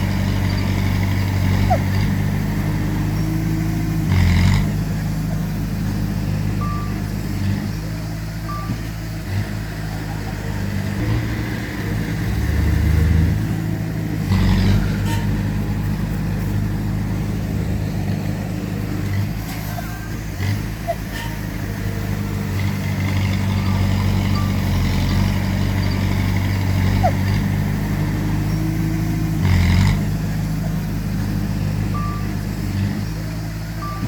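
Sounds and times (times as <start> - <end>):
heavy machinery diesel engines: 0.0 - 34.0.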